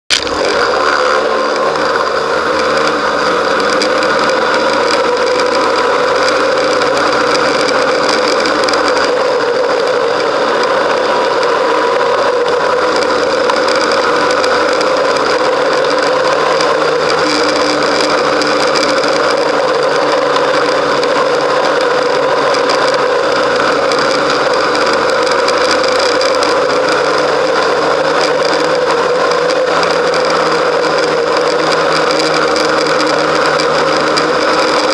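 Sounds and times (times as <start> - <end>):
snowmobile engine running: 0.1 - 34.9.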